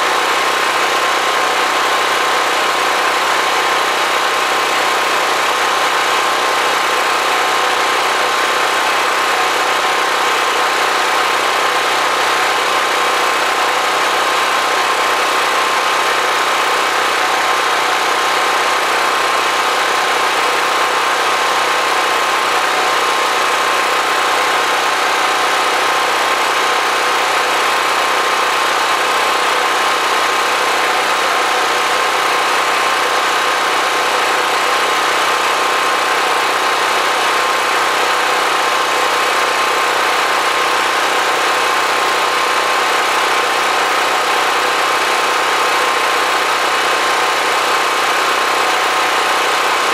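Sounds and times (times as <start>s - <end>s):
generator engine droning: 0.0s - 49.9s.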